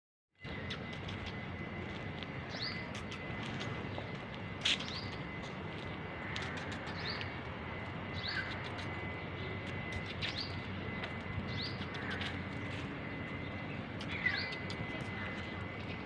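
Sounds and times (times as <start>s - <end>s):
small birds chirping: 0.4s - 1.6s, 2.4s - 7.4s, 8.1s - 16.0s.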